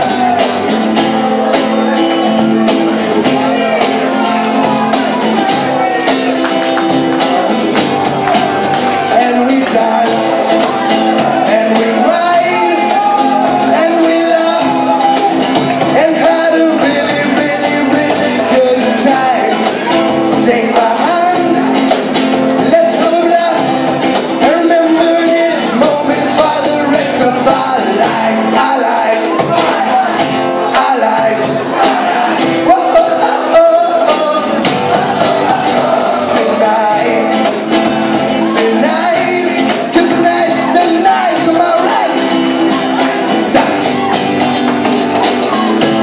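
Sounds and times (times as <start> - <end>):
cajon drumming: 0.0 - 46.0
electric guitar: 0.0 - 46.0
live band playing: 0.0 - 46.0
person singing: 0.0 - 46.0.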